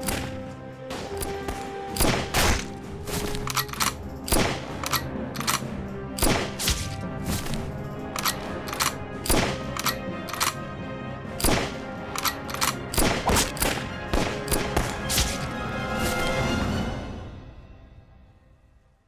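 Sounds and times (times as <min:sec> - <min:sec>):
dramatic background music: 0:00.0 - 0:19.0.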